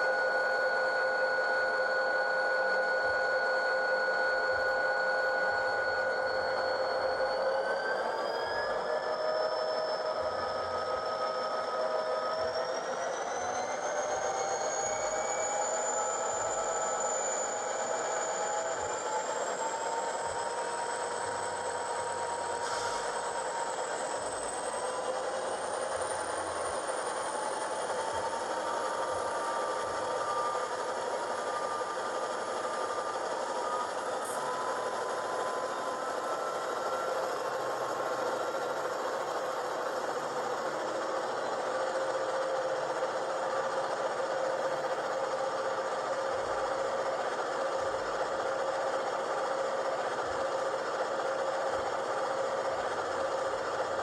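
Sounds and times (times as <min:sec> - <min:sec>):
simulated diesel engine running: 0:00.0 - 0:54.0.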